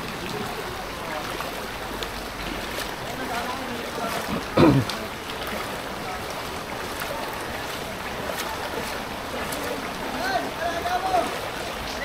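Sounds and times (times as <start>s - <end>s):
floodwater sloshing and splashing: 0.0s - 12.0s.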